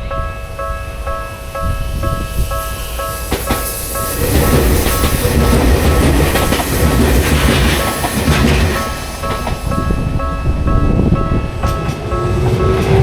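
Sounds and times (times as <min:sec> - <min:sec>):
crossing warning bell ringing: 0:00.0 - 0:13.0
train wheels clattering over rail joints: 0:00.4 - 0:13.0.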